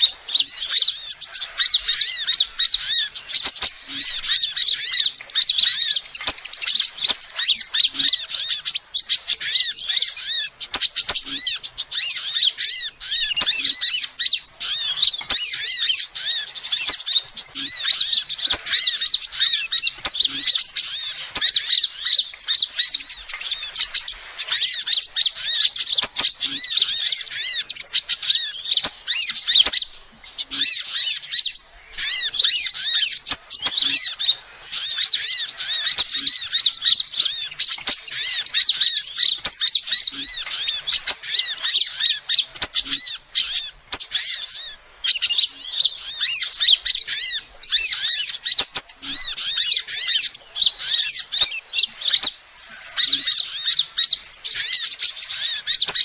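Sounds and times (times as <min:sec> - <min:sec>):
bird high-pitched chirps: 0:00.0 - 0:56.0.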